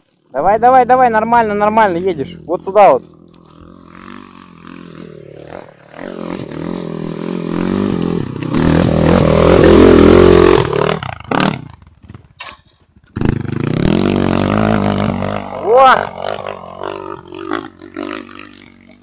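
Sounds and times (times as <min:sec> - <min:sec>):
dirt bike engine revving: 0:00.0 - 0:12.4, 0:13.0 - 0:19.0.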